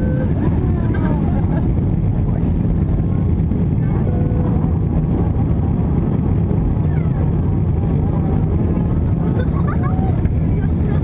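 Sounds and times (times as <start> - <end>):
jet engine cabin roar: 0.0 - 11.0.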